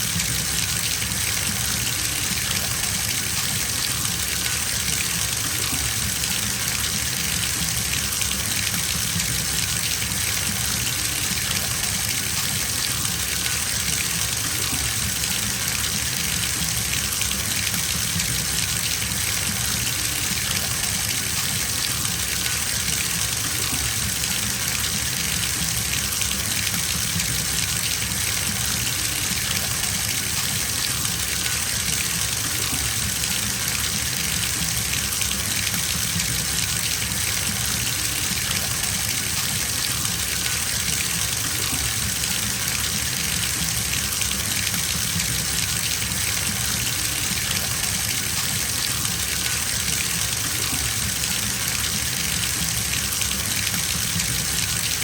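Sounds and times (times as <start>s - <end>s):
tap water filling a bathtub: 0.0s - 55.0s.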